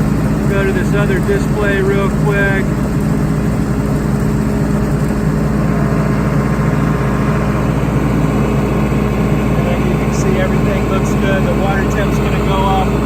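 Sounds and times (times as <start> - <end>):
diesel generator running: 0.0 - 13.0.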